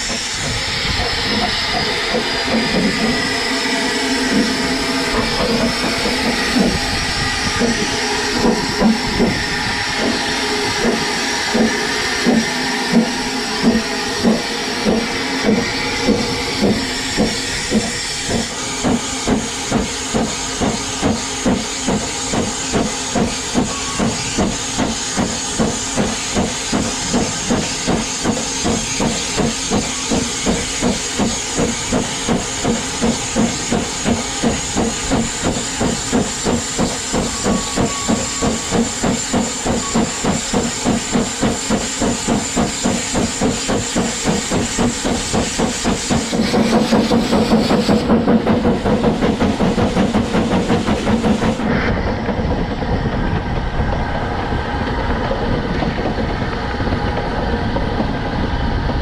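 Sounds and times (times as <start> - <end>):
steam hiss: 0.0 - 52.6
running train rumble: 0.0 - 59.0
steam locomotive exhaust beats: 0.0 - 59.0.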